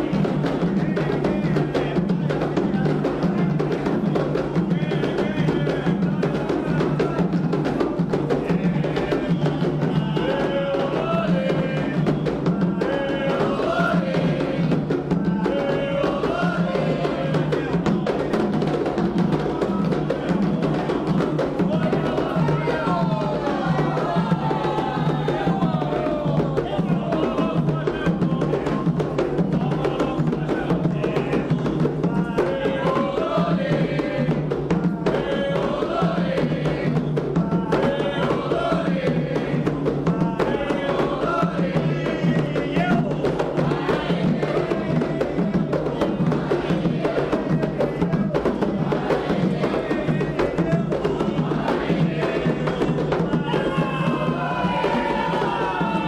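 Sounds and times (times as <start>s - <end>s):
hand drums fast rhythm: 0.0s - 56.0s
voices singing a chant: 0.0s - 56.0s.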